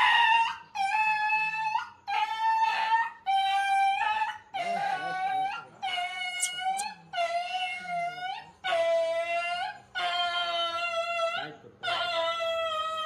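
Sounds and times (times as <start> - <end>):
puppy whining cries: 0.0 - 13.0.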